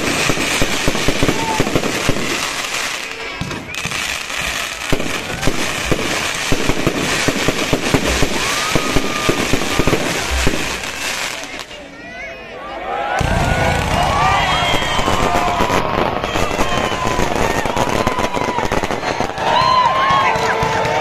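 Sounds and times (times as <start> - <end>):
firework whistles: 0.0 - 11.8, 13.2 - 19.4
fireworks crackling and banging: 0.0 - 12.0, 13.2 - 21.0.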